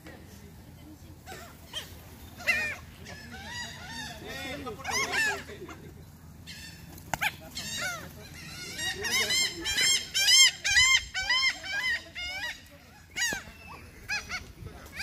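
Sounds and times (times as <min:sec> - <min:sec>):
gulls calling: 0:00.7 - 0:15.0.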